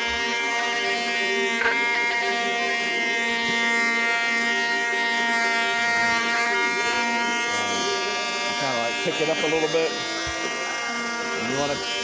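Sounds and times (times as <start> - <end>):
orbital sander whining: 0.0 - 12.0.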